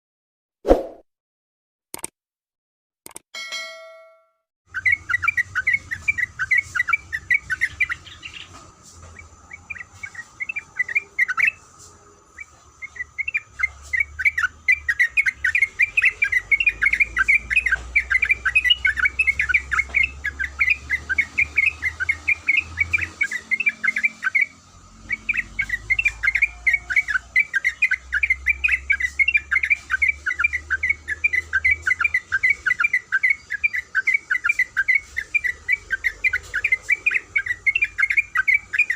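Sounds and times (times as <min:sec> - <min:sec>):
bird chattering song: 0:04.7 - 0:38.9.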